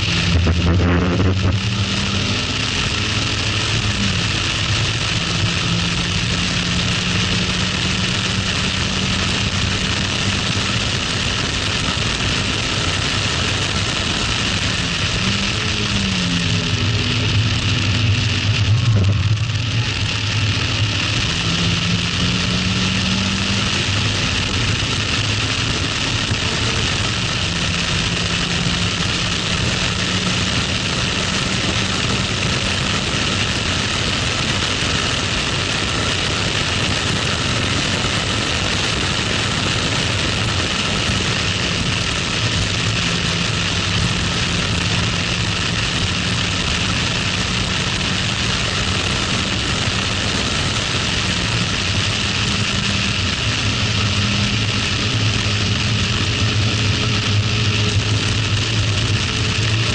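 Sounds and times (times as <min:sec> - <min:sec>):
car engine revving high: 0:00.0 - 0:59.9
loud wind rush: 0:00.0 - 0:59.9.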